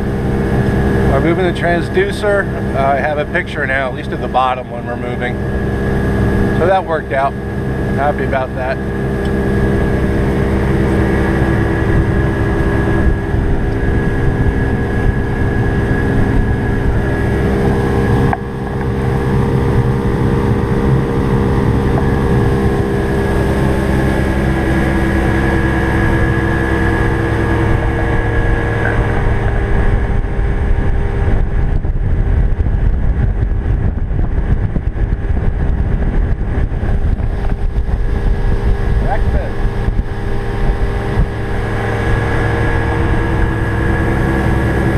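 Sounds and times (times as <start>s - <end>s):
motorboat engine running: 0.0s - 44.9s
water and wind noise: 0.0s - 44.9s.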